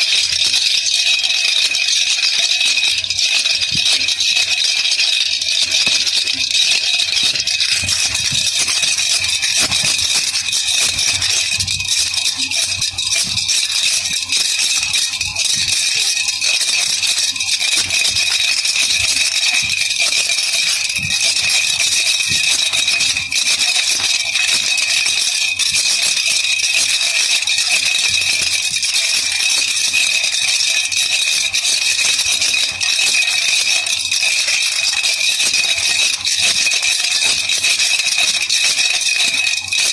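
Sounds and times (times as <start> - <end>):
baby rattle shaken: 2.4 - 39.9.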